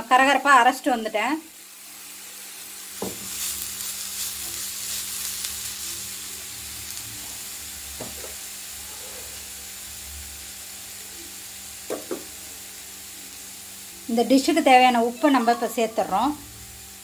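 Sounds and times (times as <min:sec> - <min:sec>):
beetroot sizzling in a frying pan: 0:00.0 - 0:17.0.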